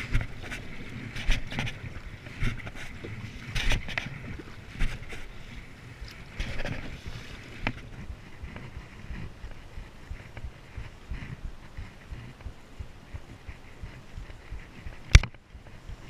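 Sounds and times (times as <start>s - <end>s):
paddle strokes splashing: 0.0s - 16.0s
water against plastic hull: 0.0s - 16.0s
wind and water wash: 0.0s - 16.0s.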